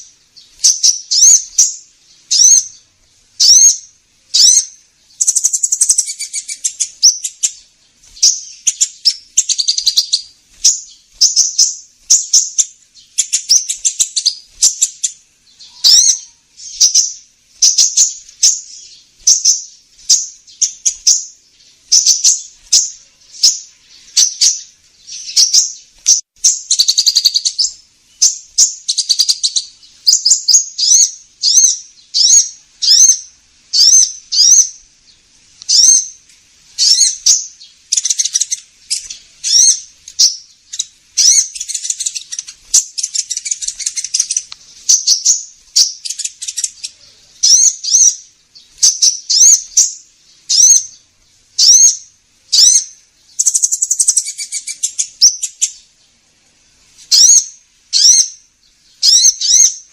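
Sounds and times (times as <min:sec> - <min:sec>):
bird chirping and trilling: 0:00.0 - 0:56.2, 0:57.1 - 0:59.9.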